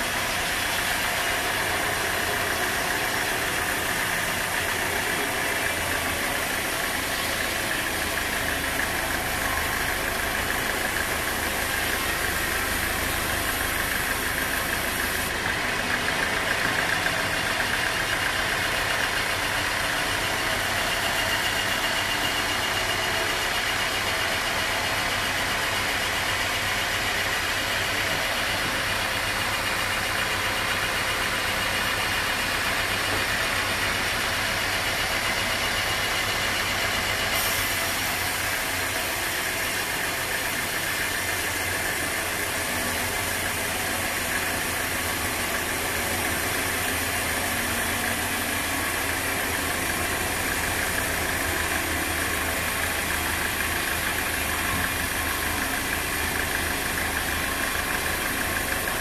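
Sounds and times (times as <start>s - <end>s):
sawmill engine hum: 0.0s - 59.0s.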